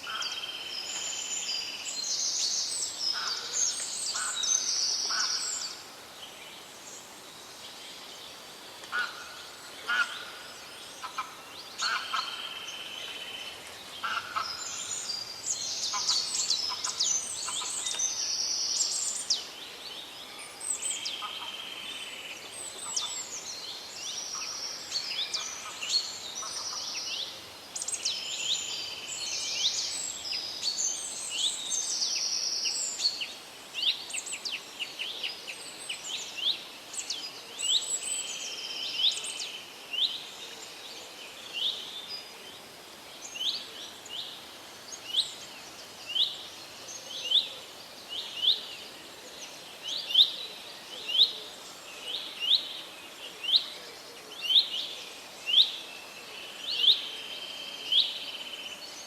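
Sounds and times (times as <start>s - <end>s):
faint steady background hiss: 0.0s - 59.0s
songbirds singing: 0.0s - 59.0s.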